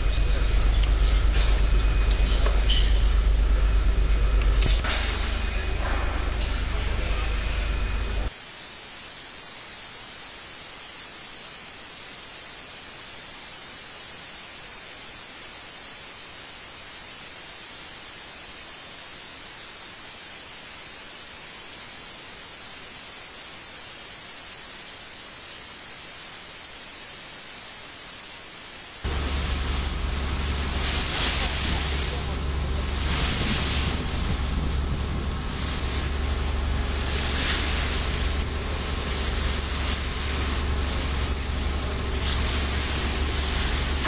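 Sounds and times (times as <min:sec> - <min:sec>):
static hiss: 0:00.0 - 0:44.0.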